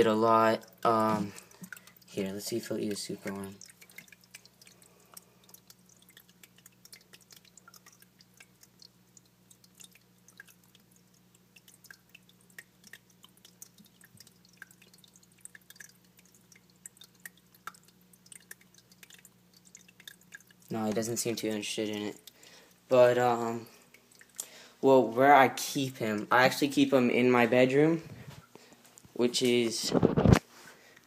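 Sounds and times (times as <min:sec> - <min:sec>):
small waterfall trickling: 0:00.0 - 0:27.4
water drips: 0:00.0 - 0:29.7
low steady hum: 0:00.0 - 0:31.0.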